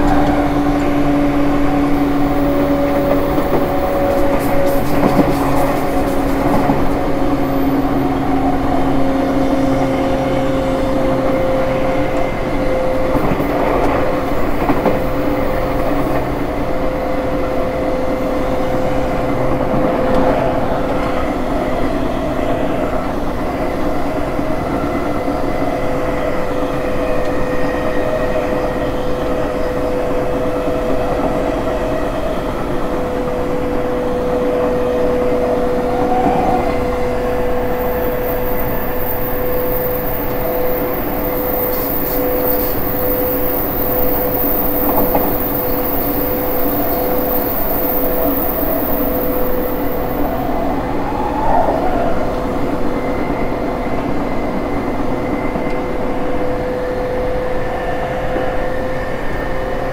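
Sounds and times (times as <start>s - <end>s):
train running on rails: 0.0s - 59.9s.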